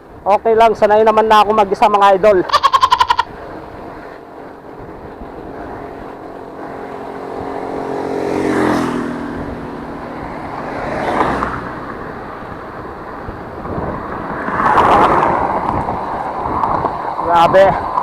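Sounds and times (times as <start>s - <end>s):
road and air noise: 0.0s - 18.0s
vehicles passing by: 0.0s - 18.0s.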